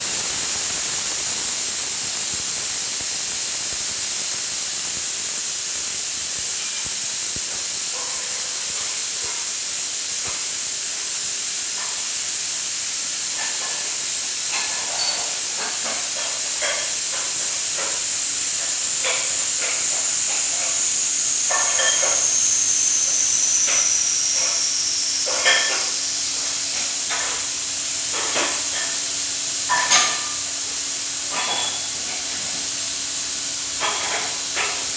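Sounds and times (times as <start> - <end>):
high-pitched hiss: 0.0 - 34.9.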